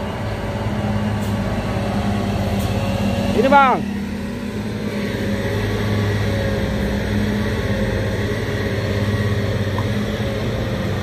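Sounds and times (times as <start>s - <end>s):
diesel engine hum: 0.0s - 11.0s.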